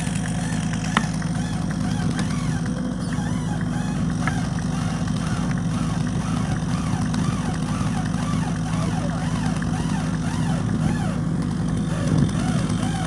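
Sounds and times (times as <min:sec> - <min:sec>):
chainsaw cutting through tree trunk: 0:00.0 - 0:13.0.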